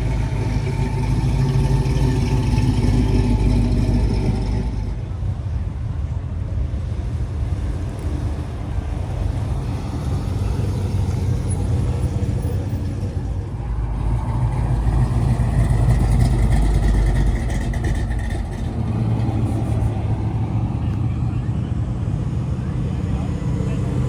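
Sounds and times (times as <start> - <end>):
car engine rumbling driving past: 0.0 - 5.9, 6.5 - 24.0.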